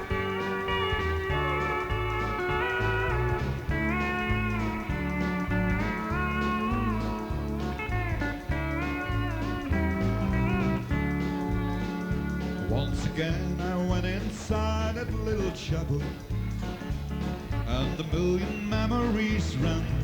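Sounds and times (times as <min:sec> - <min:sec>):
bass guitar: 0:00.0 - 0:20.0
drums: 0:00.0 - 0:20.0
pedal steel guitar melody: 0:00.0 - 0:20.0.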